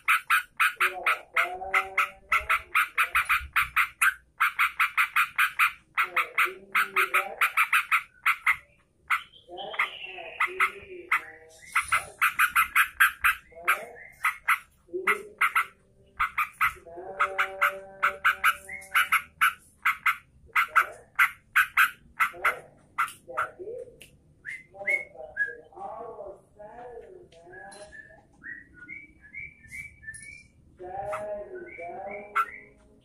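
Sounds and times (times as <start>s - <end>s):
bird chattering and chirping: 0.0s - 25.8s, 27.7s - 33.0s.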